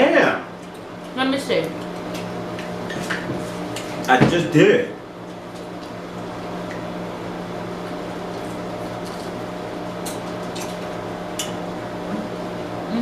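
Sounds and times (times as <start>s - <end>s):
appliance hum: 0.0s - 13.0s.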